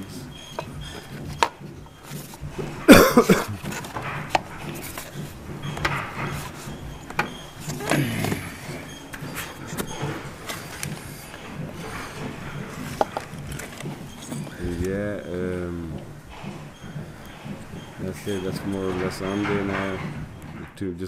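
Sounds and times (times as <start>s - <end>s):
loud squeaky scrape: 0.0s - 20.9s.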